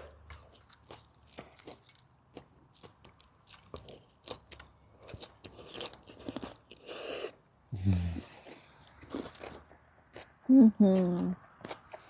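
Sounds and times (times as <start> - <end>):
crunchy chewing: 0.0 - 12.0.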